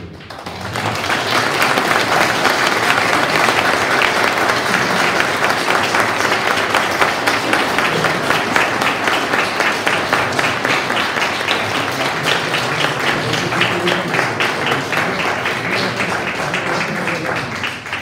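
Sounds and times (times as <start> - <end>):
small group clapping: 0.0 - 18.0.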